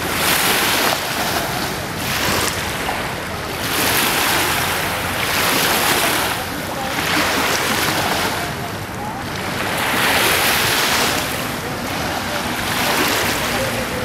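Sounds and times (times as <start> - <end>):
small waves washing on sand: 0.0 - 14.0.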